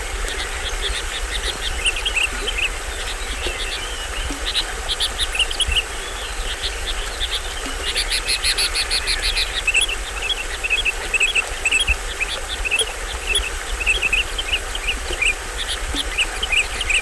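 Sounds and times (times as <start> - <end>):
waterfall running: 0.0 - 17.0.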